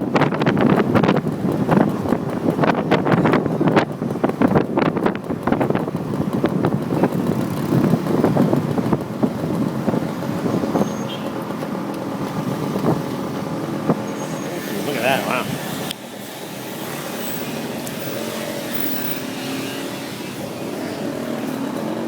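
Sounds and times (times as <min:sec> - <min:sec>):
motorbike engine: 0:00.0 - 0:22.0
road noise: 0:00.0 - 0:22.0
wind buffeting microphone: 0:00.0 - 0:22.0.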